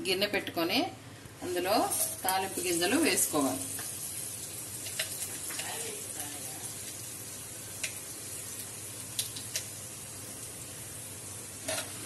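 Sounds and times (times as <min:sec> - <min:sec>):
seeds sizzling in hot oil: 0:01.6 - 0:12.0.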